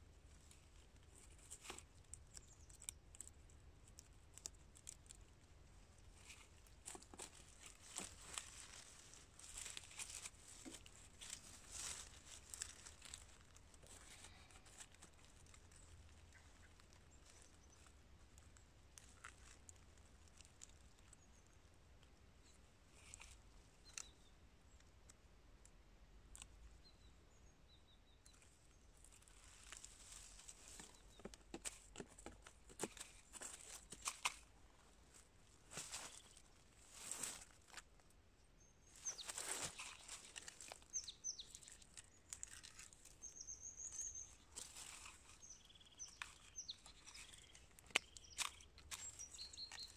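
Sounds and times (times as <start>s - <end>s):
rotten wood crackling and tearing: 0.3s - 21.3s, 28.3s - 38.1s, 38.9s - 49.9s.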